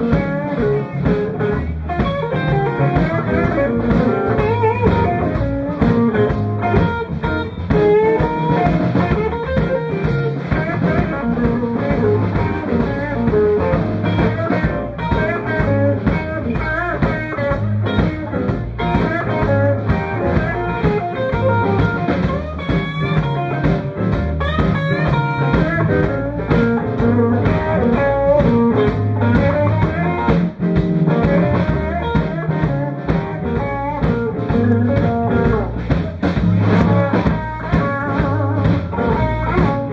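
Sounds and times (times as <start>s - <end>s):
electric guitar lead: 0.0s - 39.9s
live blues band playing: 0.0s - 39.9s.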